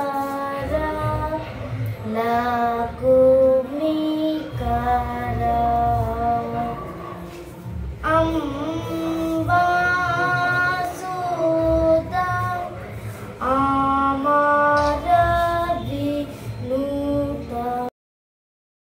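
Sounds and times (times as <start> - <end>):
boy singing devotional song: 0.0 - 17.9.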